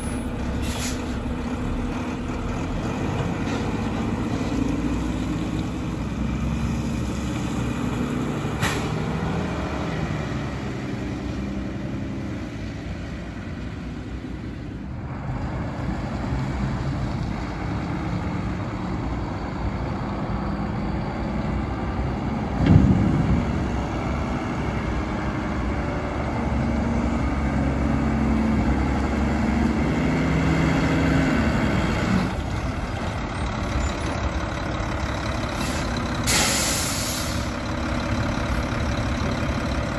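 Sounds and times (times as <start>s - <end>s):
garbage truck engine: 0.0s - 39.9s.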